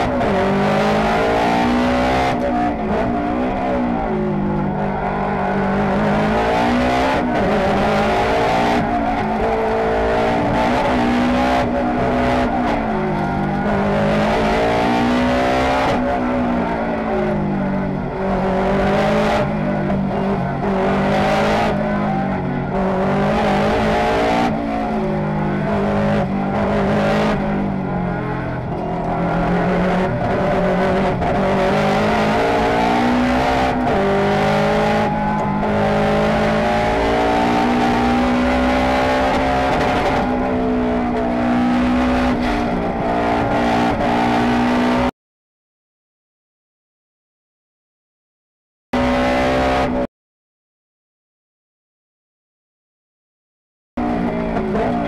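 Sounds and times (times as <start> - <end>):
car engine revving through gears: 0.0 - 45.1, 49.0 - 50.1, 54.0 - 55.0.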